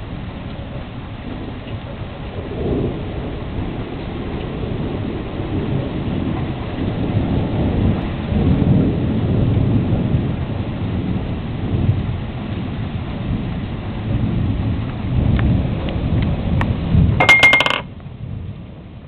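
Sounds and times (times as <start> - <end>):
thunder rumbling: 0.0 - 17.2
steady rain: 0.0 - 19.0.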